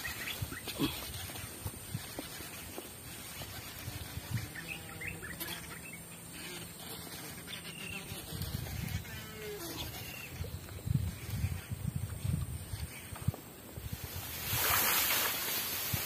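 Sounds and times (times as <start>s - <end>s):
birds chirping and calling: 0.0s - 13.4s.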